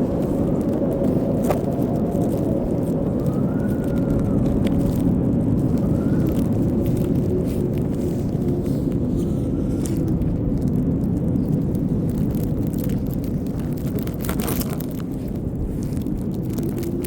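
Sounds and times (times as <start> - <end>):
faint wind whistle: 0.0 - 17.0
heavy blizzard wind: 0.0 - 17.0.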